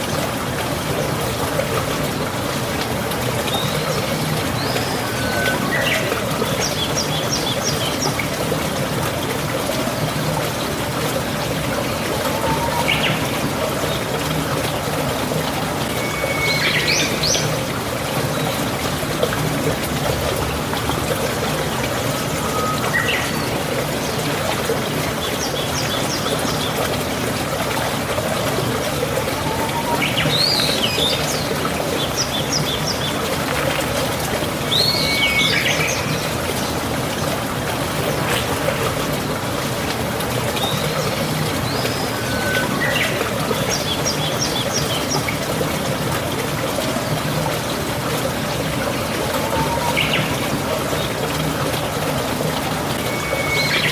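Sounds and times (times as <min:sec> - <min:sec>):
running water trickling: 0:00.0 - 0:53.9.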